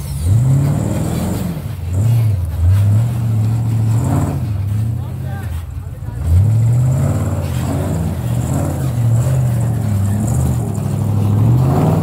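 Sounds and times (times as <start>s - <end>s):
buggy engine at low revs: 0.0s - 12.0s.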